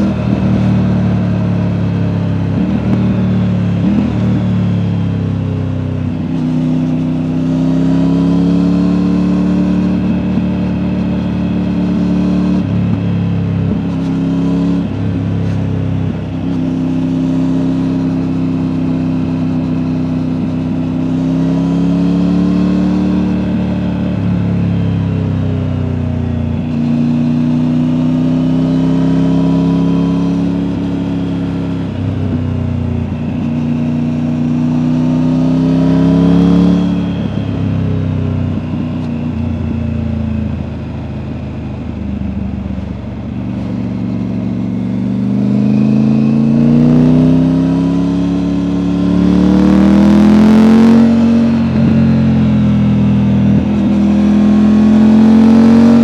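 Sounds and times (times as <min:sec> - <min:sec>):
motorcycle engine shifting gears: 0:00.0 - 0:56.0.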